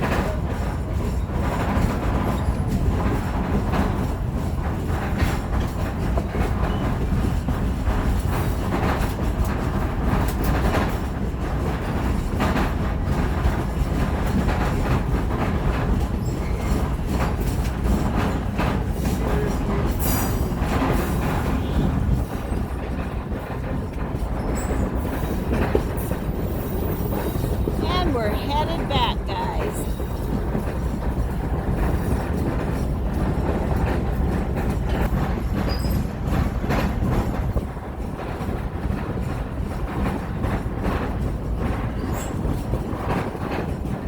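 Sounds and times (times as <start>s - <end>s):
train rumbling on track: 0.0s - 44.0s
wheels clacking on rails: 0.0s - 44.0s.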